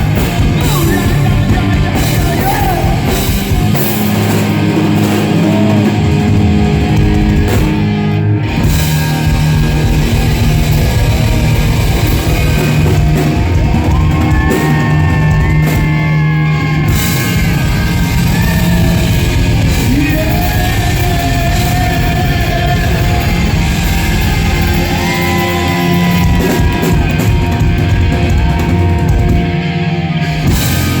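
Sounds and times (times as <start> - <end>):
bass guitar: 0.0 - 31.0
drums: 0.0 - 31.0
electric guitars: 0.0 - 31.0.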